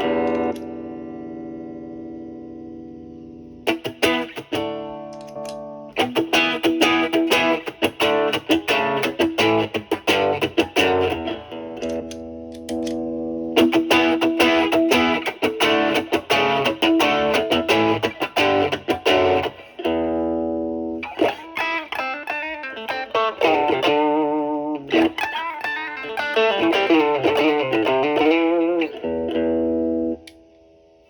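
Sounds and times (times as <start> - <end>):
lightly overdriven electric guitar: 0.0 - 31.0.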